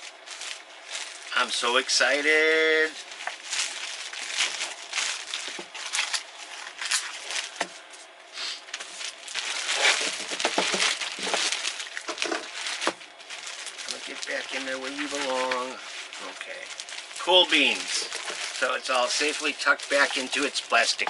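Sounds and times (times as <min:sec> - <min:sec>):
plastic bag crinkling: 0:00.0 - 0:07.9, 0:08.7 - 0:21.0.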